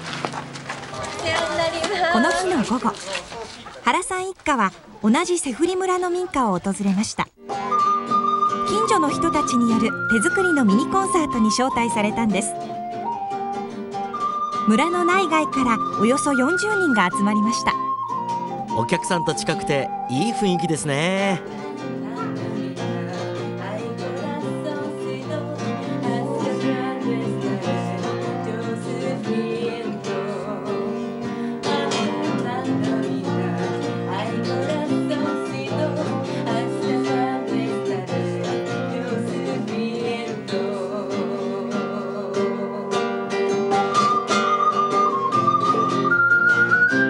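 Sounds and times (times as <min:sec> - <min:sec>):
acoustic guitar music: 0:00.0 - 0:47.0.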